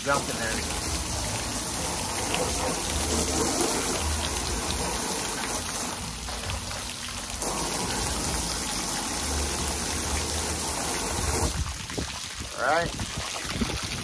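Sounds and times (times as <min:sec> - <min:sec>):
hose water spraying on metal: 0:00.0 - 0:12.1.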